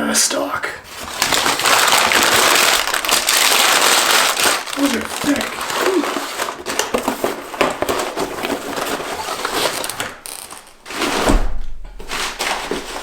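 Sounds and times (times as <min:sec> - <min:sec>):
packaging rustling: 0:00.9 - 0:11.4, 0:12.0 - 0:13.0.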